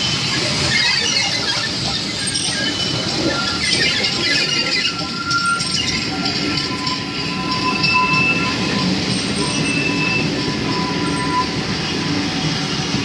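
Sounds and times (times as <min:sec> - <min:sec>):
high-pitched wheel squeals: 0:00.0 - 0:13.0
train wheels rumbling on rails: 0:00.0 - 0:13.0.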